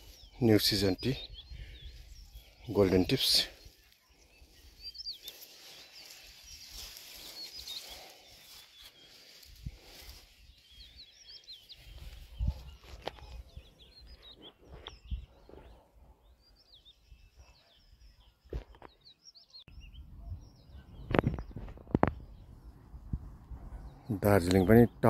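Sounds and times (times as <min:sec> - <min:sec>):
small birds twittering: 0:00.0 - 0:25.0.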